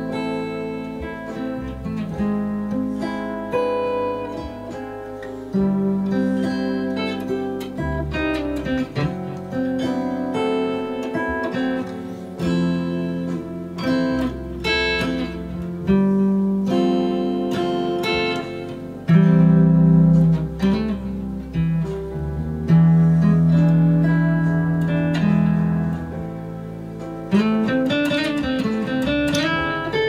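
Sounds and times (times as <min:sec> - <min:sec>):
guitar playing chord melody: 0:00.0 - 0:30.0.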